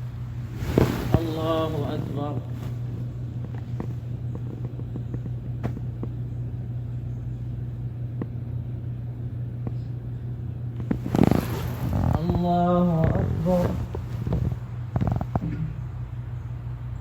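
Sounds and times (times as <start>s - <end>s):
sound system hum: 0.0s - 17.0s.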